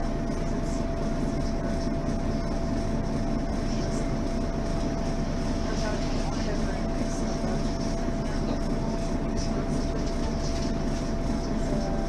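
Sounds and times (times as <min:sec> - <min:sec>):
bus engine drone: 0:00.0 - 0:12.0
thin steady whine: 0:00.0 - 0:12.0.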